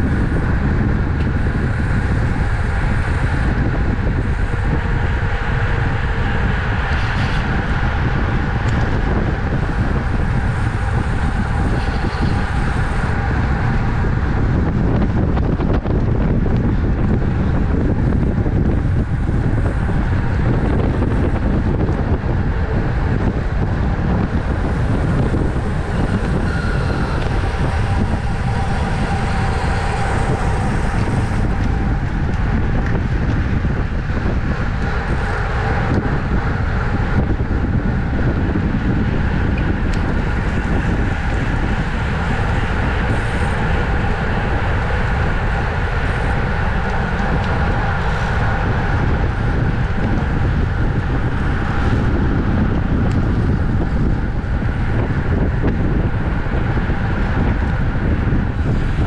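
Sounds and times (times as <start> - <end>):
road rumble: 0.0 - 59.0
wind buffeting microphone: 0.0 - 59.0.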